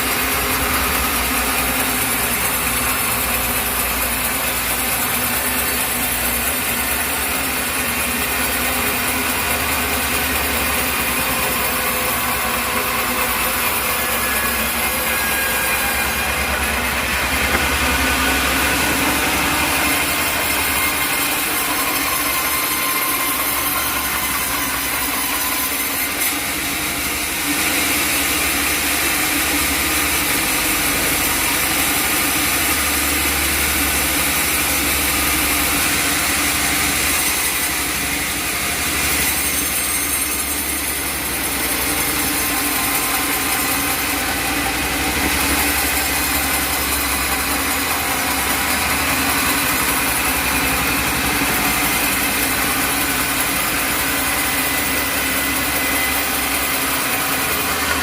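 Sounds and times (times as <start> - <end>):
engine drone: 0.0 - 58.0
saw cutting through log: 0.0 - 58.0.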